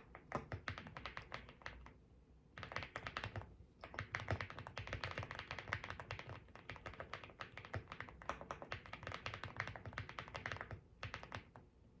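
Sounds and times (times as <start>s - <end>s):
typing on mechanical keyboard: 0.0s - 2.0s, 2.6s - 11.6s.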